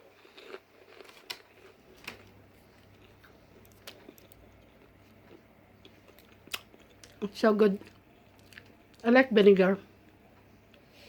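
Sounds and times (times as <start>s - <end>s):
chewing crisp snack: 0.0s - 9.1s
faint low hum: 0.0s - 11.0s.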